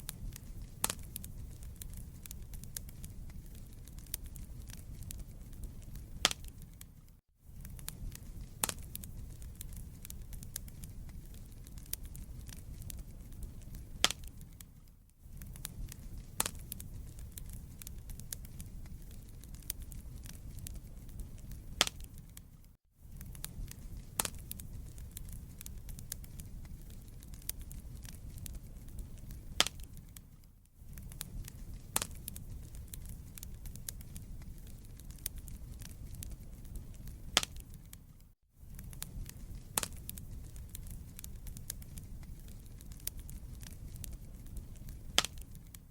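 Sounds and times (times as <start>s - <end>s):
fire rumbling: 0.0s - 45.9s
logs crackling and popping: 0.0s - 45.9s.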